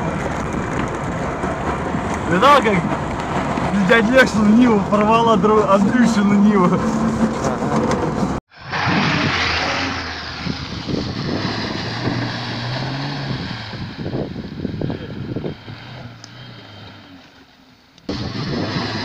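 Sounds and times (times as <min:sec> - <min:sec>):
car engine pulling under load: 0:00.0 - 0:19.0.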